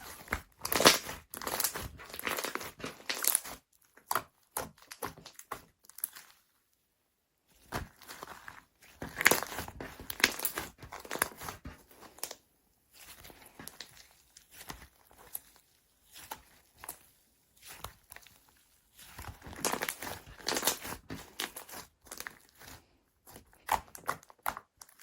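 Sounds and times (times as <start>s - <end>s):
slime squished by hand: 0.0s - 6.5s, 7.5s - 25.0s.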